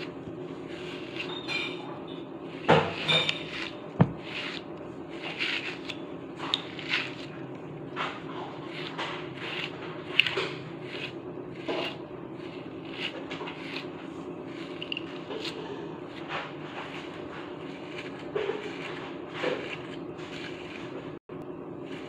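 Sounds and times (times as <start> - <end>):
brush raking through fur: 0.0 - 1.8, 2.4 - 21.2, 21.8 - 22.0.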